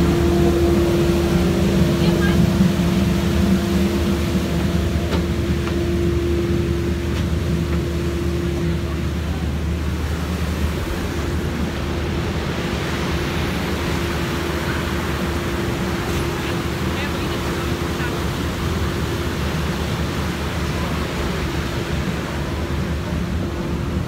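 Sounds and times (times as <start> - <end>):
boat engines rumbling: 0.0 - 24.0
rush of boat wake: 0.0 - 24.0.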